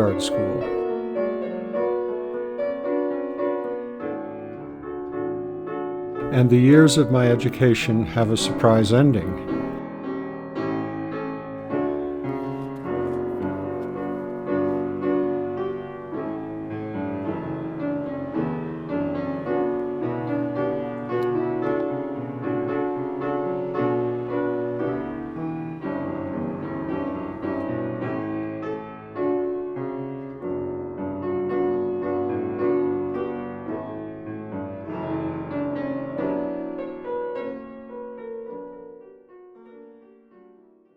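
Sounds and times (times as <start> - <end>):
solo piano music: 0.0 - 40.9.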